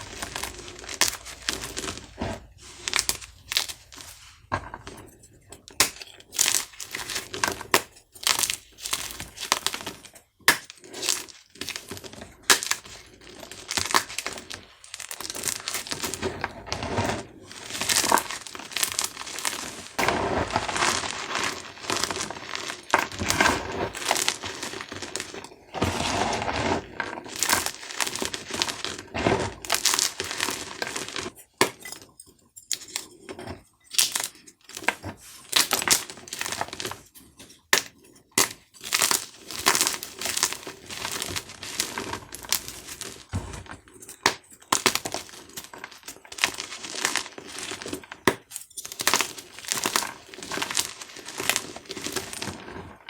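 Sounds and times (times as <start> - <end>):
chalk crunching and crumbling: 0.0 - 31.9, 32.8 - 53.0.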